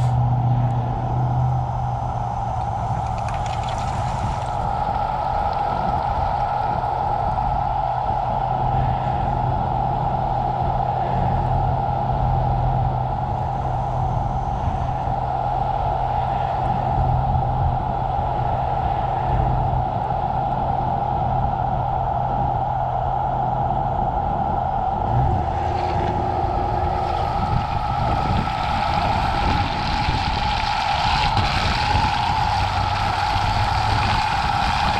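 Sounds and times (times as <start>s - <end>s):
car tyre road noise: 0.0s - 34.9s.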